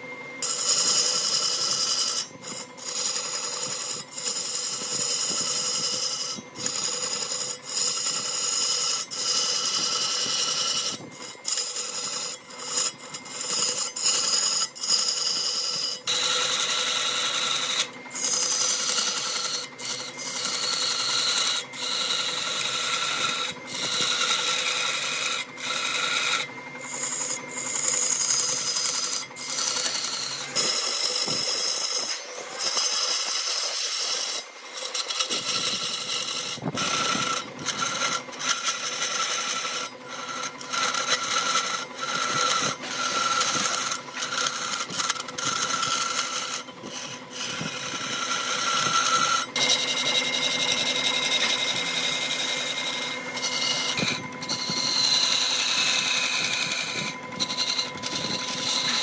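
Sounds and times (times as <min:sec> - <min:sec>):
power tool rasping wood: 0:00.0 - 0:59.0
steady motor tone: 0:00.0 - 0:59.0.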